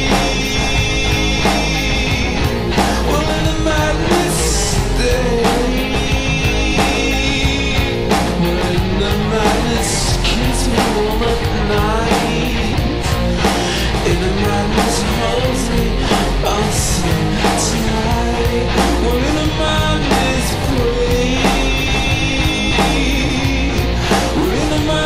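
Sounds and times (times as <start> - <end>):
bending lead guitar line: 0.0 - 25.0
rock band playing: 0.0 - 25.0
steady drum beat: 0.0 - 25.0.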